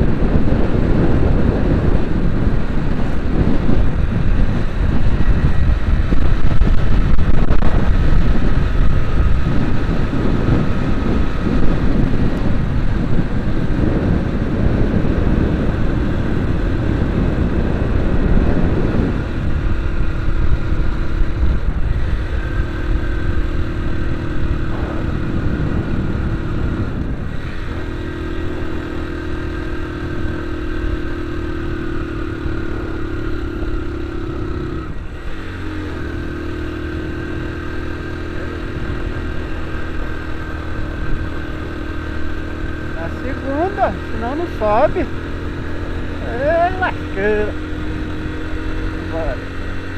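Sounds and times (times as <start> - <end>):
road and wind rumble: 0.0 - 49.9
vehicle engine running: 0.0 - 49.9.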